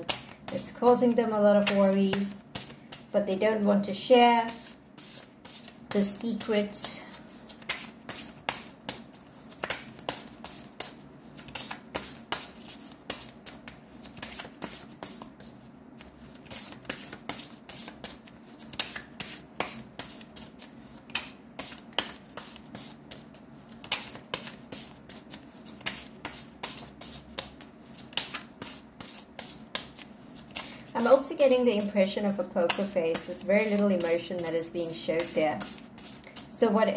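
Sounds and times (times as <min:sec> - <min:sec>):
cards being shuffled: 0:04.5 - 0:06.0, 0:07.1 - 0:31.2, 0:31.8 - 0:36.6.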